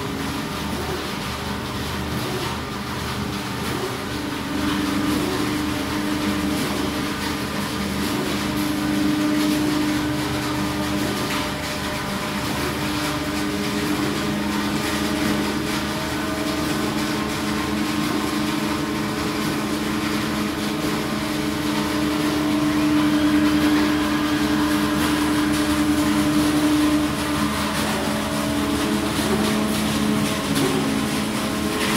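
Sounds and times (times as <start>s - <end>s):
production line machinery hum: 0.0s - 31.9s.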